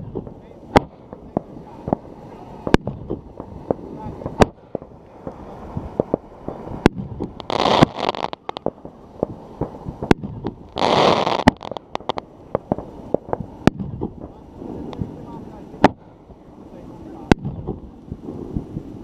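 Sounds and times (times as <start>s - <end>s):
crackling pops: 0.0s - 16.4s, 17.1s - 19.0s
firework shells bursting: 0.0s - 16.4s, 17.1s - 19.0s
hissing rushes: 0.0s - 19.0s.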